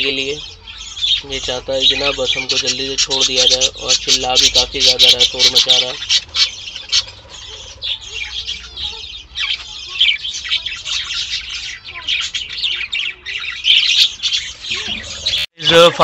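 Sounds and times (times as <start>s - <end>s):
budgerigar screeching: 0.0s - 16.0s.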